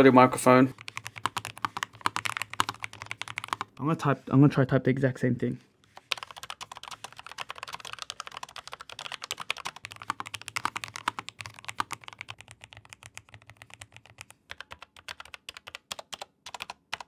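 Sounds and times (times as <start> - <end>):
fast typing on mechanical keyboard: 0.7 - 3.8, 5.9 - 17.0.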